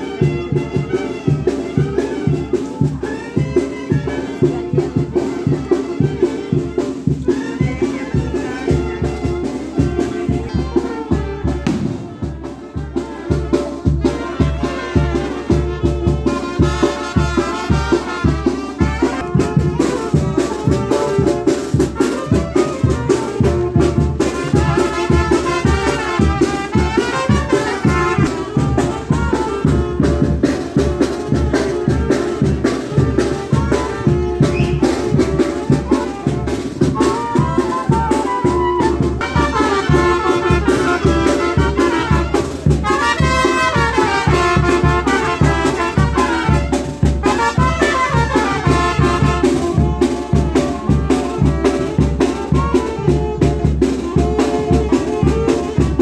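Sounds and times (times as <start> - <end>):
brass band playing: 0.0 - 56.0
steady drum beat: 0.0 - 56.0.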